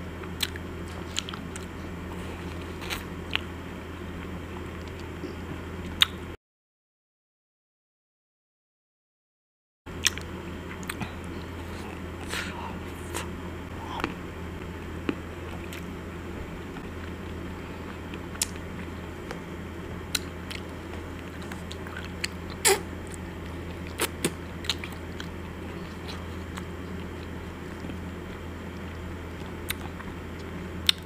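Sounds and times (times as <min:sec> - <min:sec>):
steady low hum: 0:00.0 - 0:06.4, 0:09.9 - 0:31.0.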